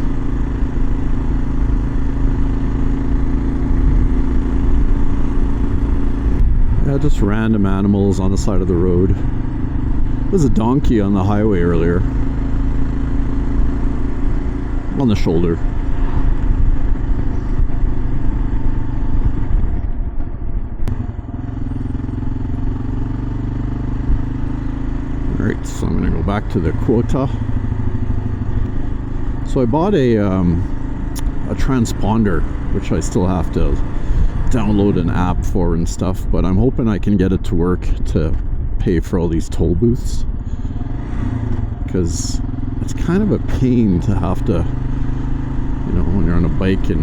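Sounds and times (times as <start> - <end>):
motorcycle engine cruising: 0.0 - 47.0
road and wind noise: 0.0 - 47.0.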